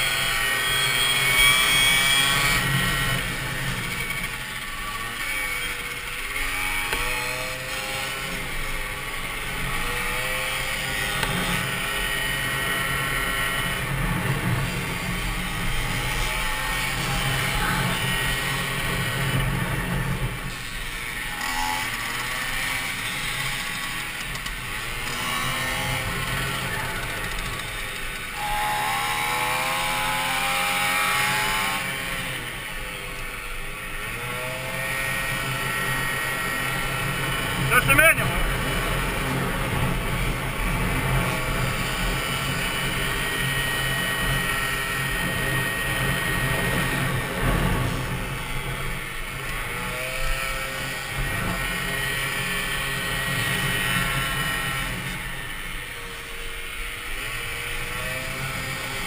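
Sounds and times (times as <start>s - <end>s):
moped engine running flat out: 0.0s - 59.0s.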